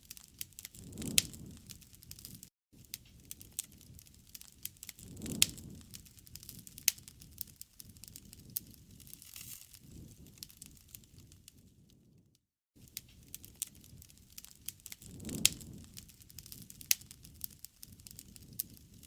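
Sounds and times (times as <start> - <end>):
wood fire crackling and popping: 0.0 - 12.2, 12.8 - 19.0
low rumble of burning: 0.0 - 19.0.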